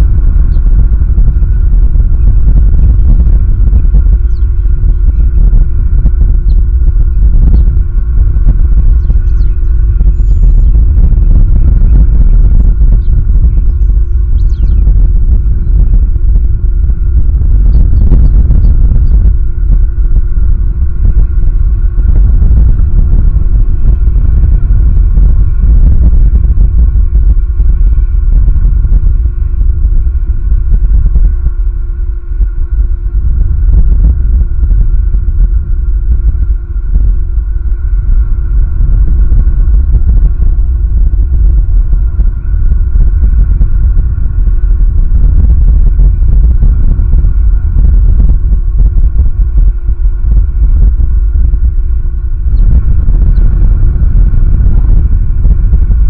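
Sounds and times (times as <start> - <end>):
faint steady tone: 0.0 - 56.0
wind buffeting microphone: 0.0 - 56.0.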